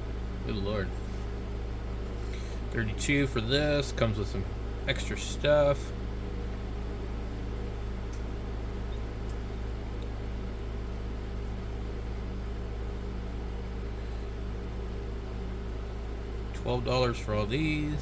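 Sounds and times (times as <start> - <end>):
machine hum with hiss: 0.0 - 18.0.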